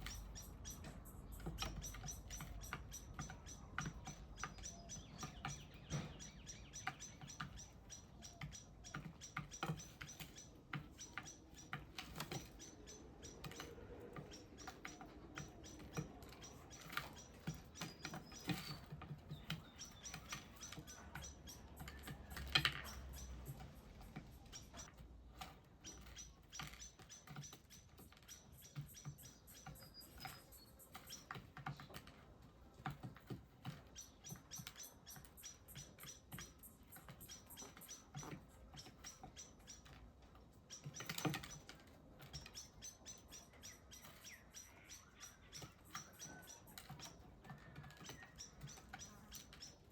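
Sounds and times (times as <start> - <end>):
birds pecking and hopping: 0.0 - 49.9.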